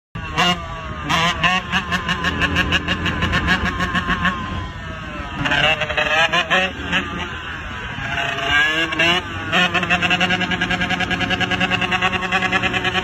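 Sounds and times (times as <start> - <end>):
dirt bike engine revving: 0.2 - 13.0.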